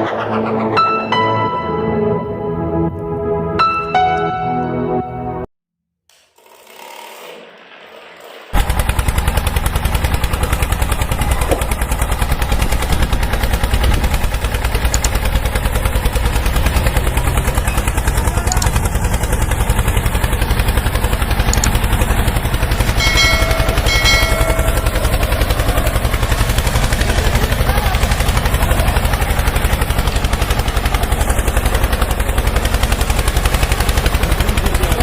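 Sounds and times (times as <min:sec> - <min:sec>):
small motor rattling buzz: 0:06.2 - 0:35.0.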